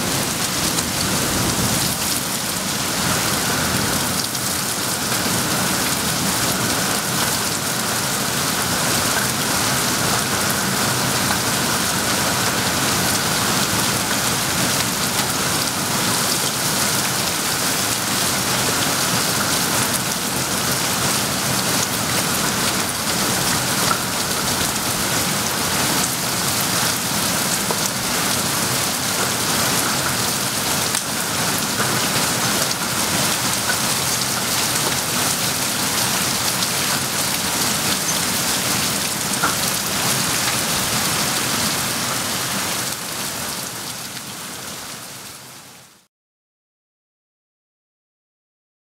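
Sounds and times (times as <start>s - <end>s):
heavy rain falling: 0.0s - 46.1s.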